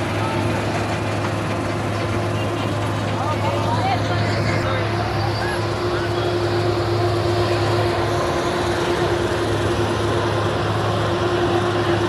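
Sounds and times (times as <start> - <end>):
heavy diesel truck engines droning: 0.0 - 12.0.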